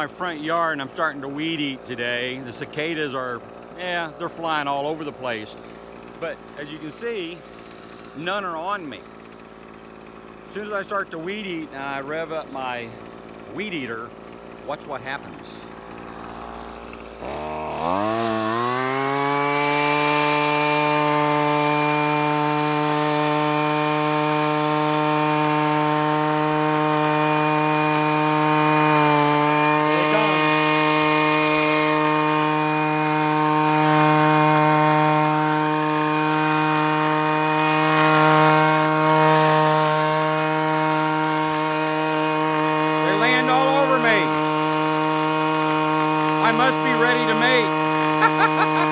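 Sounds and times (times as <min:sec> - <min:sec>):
string trimmer engine revving: 0:00.0 - 0:48.9.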